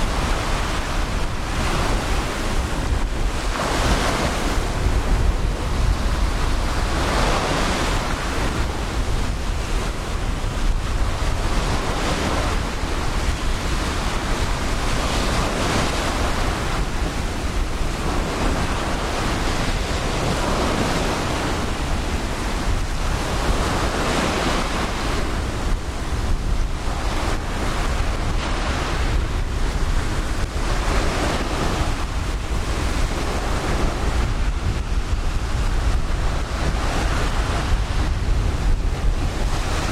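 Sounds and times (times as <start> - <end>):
low rumble of wind on microphone: 0.0 - 39.9
ocean surf breaking: 0.0 - 39.9.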